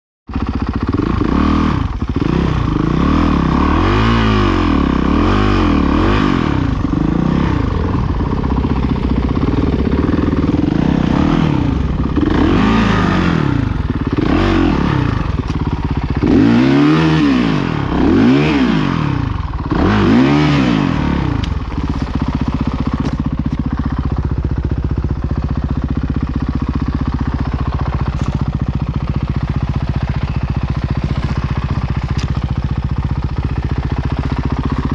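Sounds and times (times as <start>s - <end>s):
motorcycle engine revving and idling: 0.3s - 34.9s.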